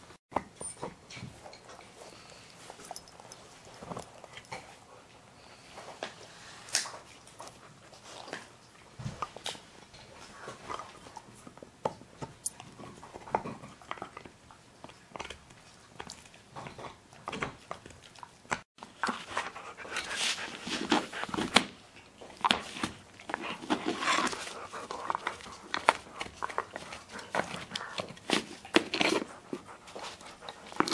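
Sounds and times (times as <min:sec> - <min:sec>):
dogs gnawing antler chews: 0:00.3 - 0:05.3, 0:05.9 - 0:30.9.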